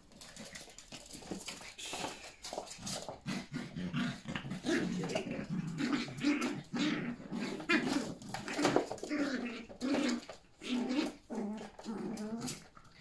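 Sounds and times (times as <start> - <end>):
puppies play-growling: 0.0 - 13.0.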